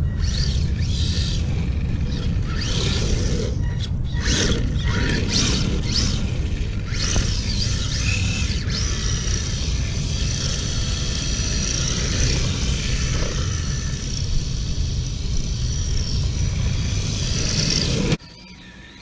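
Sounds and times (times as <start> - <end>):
rc car motor whine: 0.0 - 19.0.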